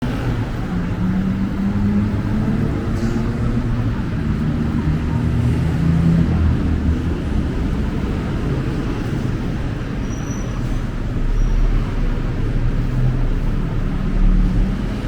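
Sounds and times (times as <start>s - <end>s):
vehicle engines humming: 0.0s - 15.0s.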